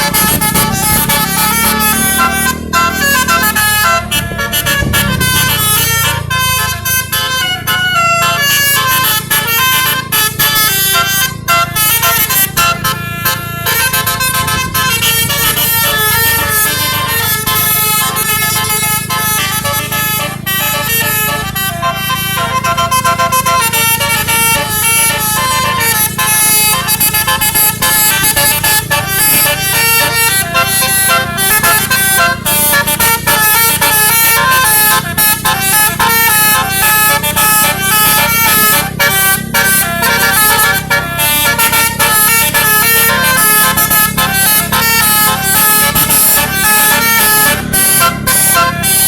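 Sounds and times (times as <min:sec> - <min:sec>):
multi-tone bus horn melody: 0:00.0 - 0:49.0.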